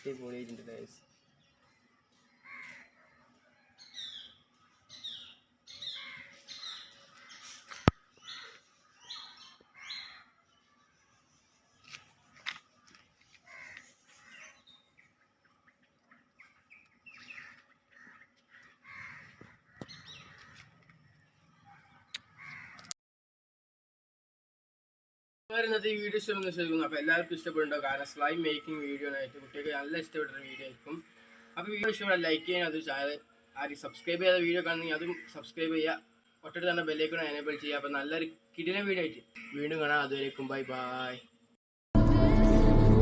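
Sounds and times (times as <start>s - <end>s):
birds chirping: 0.0s - 22.9s, 25.6s - 41.6s.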